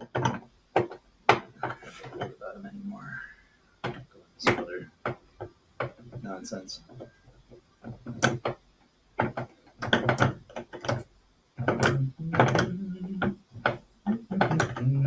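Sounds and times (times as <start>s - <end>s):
clicks and knocks: 0.0s - 2.4s, 3.8s - 15.0s.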